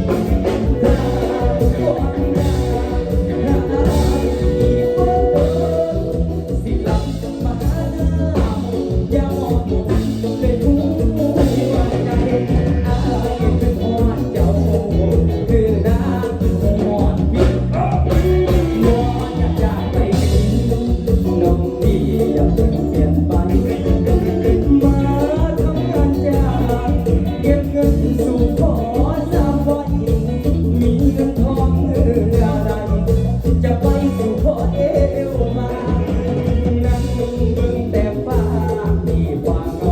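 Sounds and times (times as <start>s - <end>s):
live band playing: 0.0s - 39.9s
person singing: 0.0s - 39.9s.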